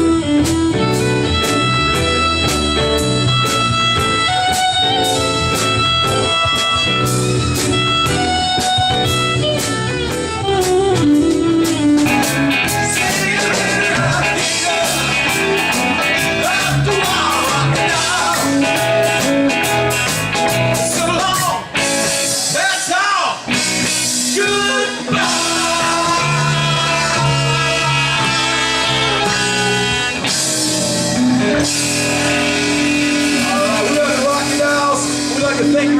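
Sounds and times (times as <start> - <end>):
blues-rock band with lead guitar: 0.0 - 35.9.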